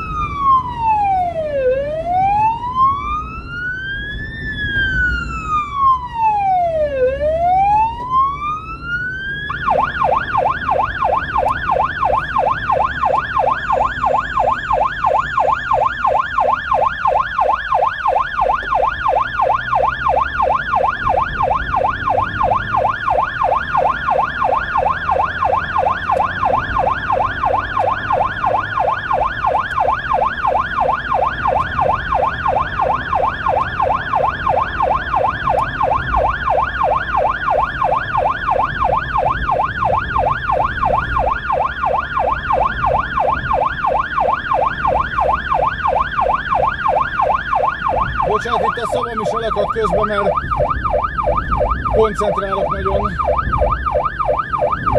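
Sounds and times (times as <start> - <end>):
electronic siren yelping: 0.0 - 54.9
low engine and road rumble: 0.0 - 54.9.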